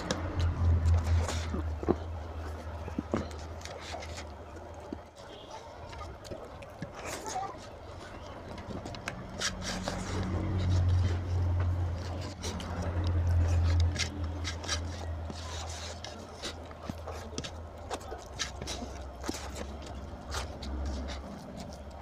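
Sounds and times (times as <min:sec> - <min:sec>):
wet chewing with mouth smacks: 0:00.0 - 0:22.0.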